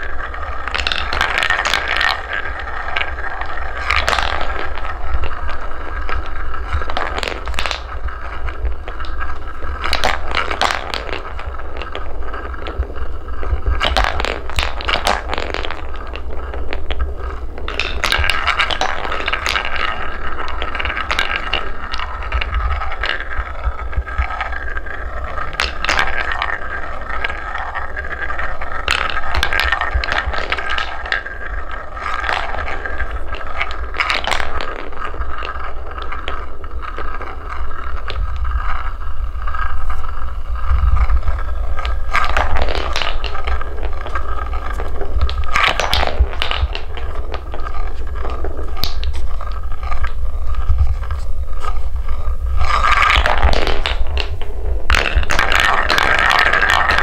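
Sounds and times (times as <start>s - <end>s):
wooden balls clacking: 0.0s - 57.0s
wooden balls rolling on track: 0.0s - 57.0s.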